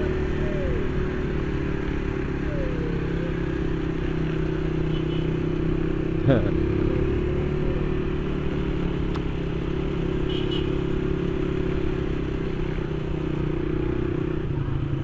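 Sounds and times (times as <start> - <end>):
motorcycle engine cruising: 0.0 - 15.0
road and wind noise: 0.0 - 15.0.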